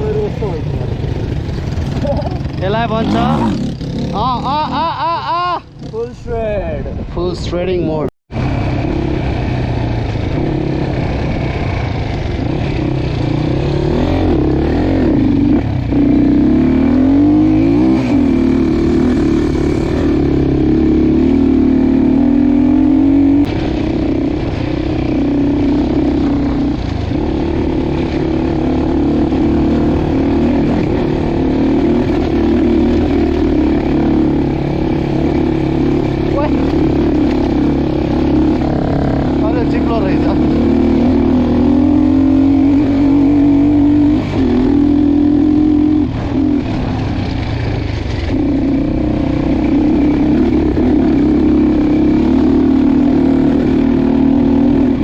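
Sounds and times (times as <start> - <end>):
dirt bike engine revving: 0.0 - 6.2, 8.3 - 55.0.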